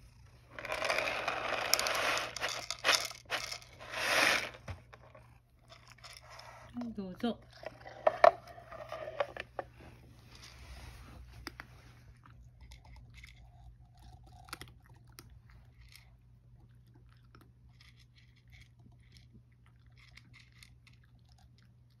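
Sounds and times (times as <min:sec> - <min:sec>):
cat crunching dry kibble: 0:00.0 - 0:09.6, 0:10.3 - 0:22.0.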